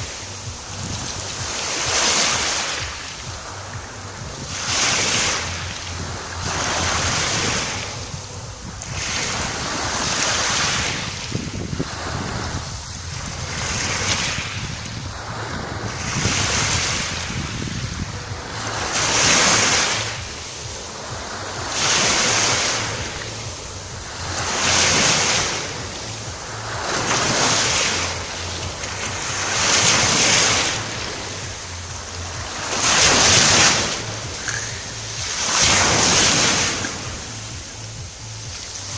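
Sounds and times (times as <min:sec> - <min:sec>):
sea waves washing ashore: 0:00.0 - 0:38.9
wind on microphone: 0:00.0 - 0:38.9.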